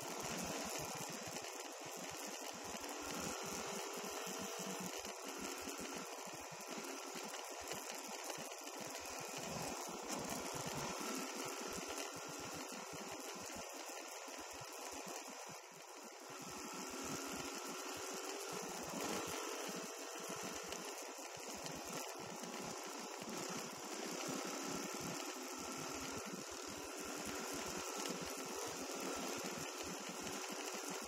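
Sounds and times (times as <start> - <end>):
dirt bike engine running: 0.0 - 31.0
steady hiss: 0.0 - 31.0.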